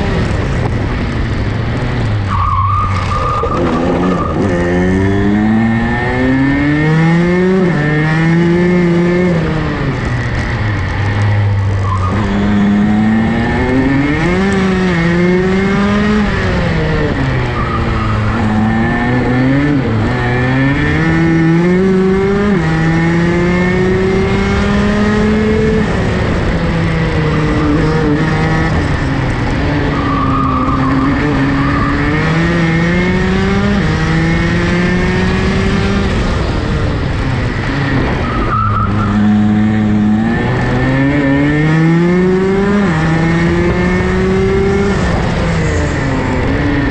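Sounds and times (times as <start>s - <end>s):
kart engine revving: 0.0s - 46.9s
tyre and wind noise: 0.0s - 46.9s.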